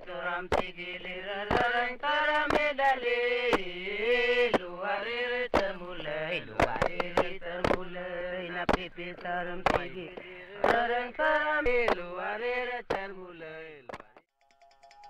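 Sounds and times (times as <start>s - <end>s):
male voices chanting: 0.0s - 13.9s.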